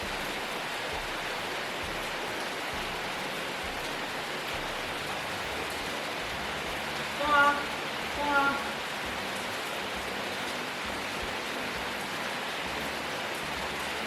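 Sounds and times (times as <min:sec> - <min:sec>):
water hissing: 0:00.0 - 0:14.0.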